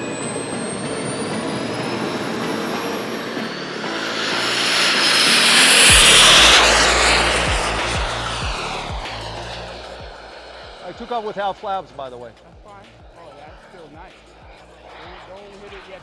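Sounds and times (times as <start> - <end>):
thin rising turbine whine: 0.0 - 12.8, 13.4 - 16.0
model jet turbines roaring: 0.0 - 16.0.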